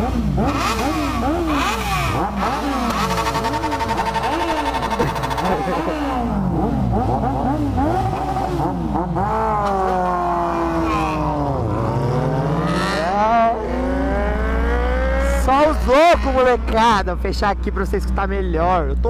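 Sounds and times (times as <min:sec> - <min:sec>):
motorcycles revving hard: 0:00.0 - 0:16.8.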